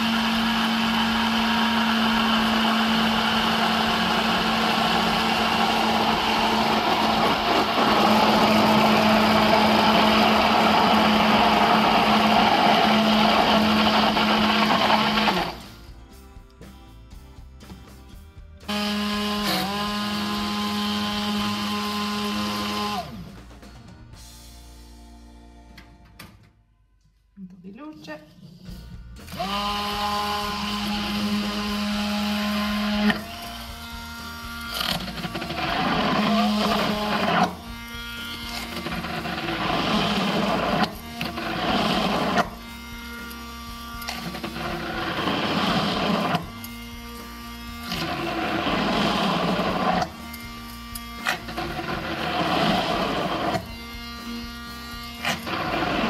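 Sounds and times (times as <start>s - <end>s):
immersion blender motor humming: 0.0s - 15.8s, 18.7s - 23.3s, 29.3s - 56.0s.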